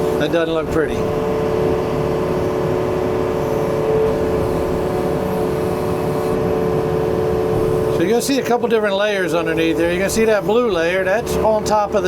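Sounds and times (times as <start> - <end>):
diesel engine running: 0.0 - 12.0
steady hum: 0.0 - 12.0.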